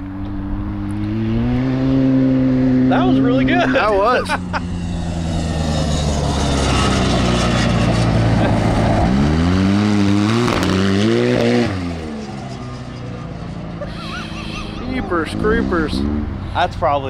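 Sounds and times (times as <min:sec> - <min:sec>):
turbocharged engine revving: 0:00.0 - 0:17.0.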